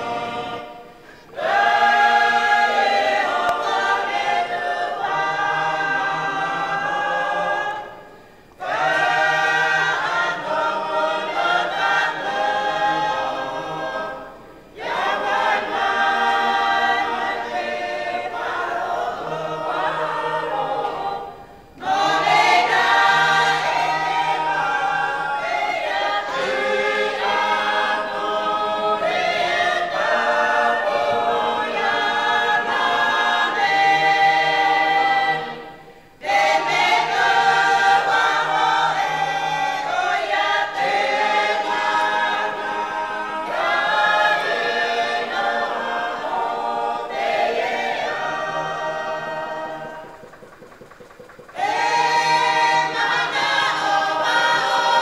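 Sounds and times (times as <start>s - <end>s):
choir singing unaccompanied: 0.0s - 55.0s.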